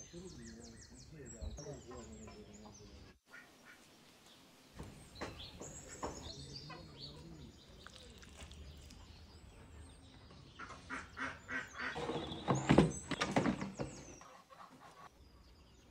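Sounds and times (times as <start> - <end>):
bird calling: 0.0 - 15.2.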